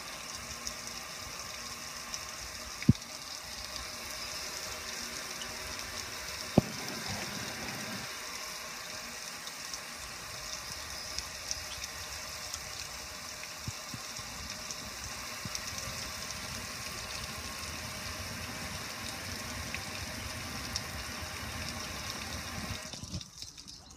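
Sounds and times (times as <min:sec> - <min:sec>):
small water patters: 0:00.0 - 0:23.9
water splashing over grill: 0:00.0 - 0:23.9.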